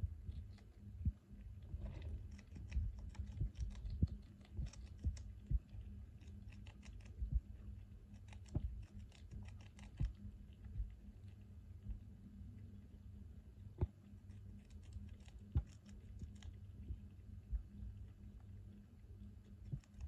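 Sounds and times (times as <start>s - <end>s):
squirrel chewing with crunchy clicks: 0.0s - 13.0s, 13.6s - 20.0s.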